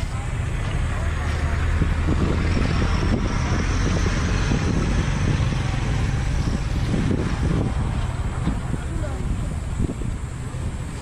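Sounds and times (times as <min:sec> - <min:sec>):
road traffic rumble and hiss: 0:00.0 - 0:11.0.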